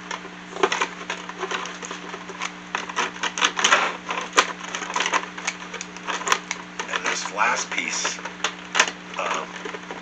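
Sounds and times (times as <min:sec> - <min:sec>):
fingers handling plastic: 0:00.0 - 0:10.0
steady low hum: 0:00.0 - 0:10.0.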